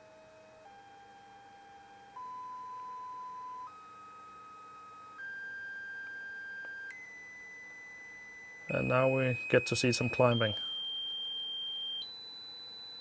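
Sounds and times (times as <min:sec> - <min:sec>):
stepped sine test tone: 0:00.0 - 0:13.0.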